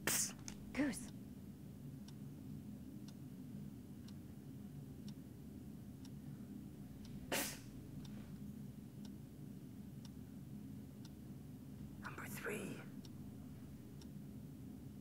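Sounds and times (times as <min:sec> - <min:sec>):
low room hum: 0:00.0 - 0:15.0
clock ticking faintly: 0:02.0 - 0:15.0.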